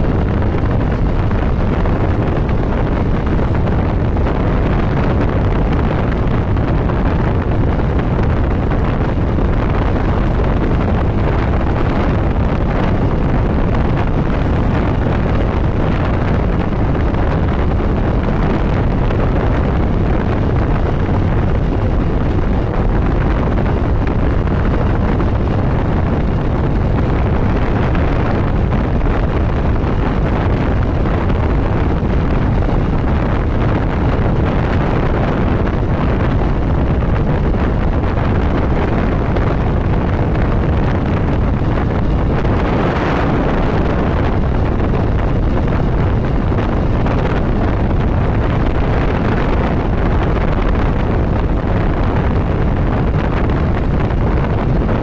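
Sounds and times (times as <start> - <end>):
motorcycle running: 0.0 - 55.0
wind rush on microphone: 0.0 - 55.0.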